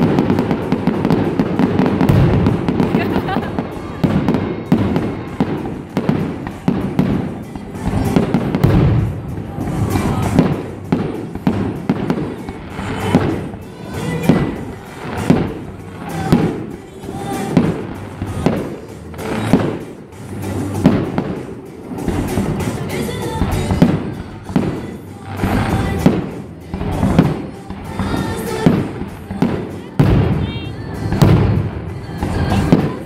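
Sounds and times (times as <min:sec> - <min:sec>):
fireworks bursting: 0:00.0 - 0:33.0
music playing: 0:00.0 - 0:33.0.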